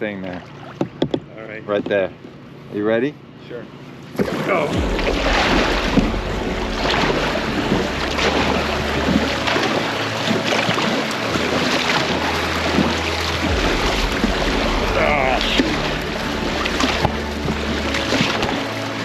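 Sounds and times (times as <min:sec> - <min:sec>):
paddles splashing in water: 0:00.0 - 0:02.6, 0:03.9 - 0:19.0.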